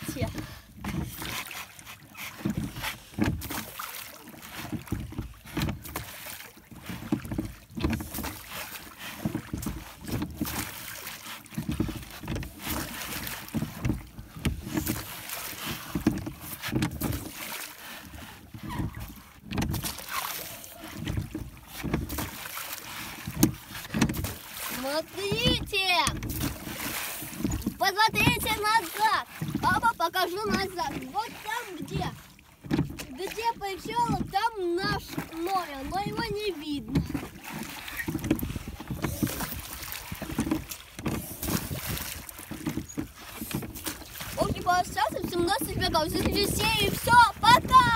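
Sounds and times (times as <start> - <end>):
oars splashing in water: 0.0 - 47.9.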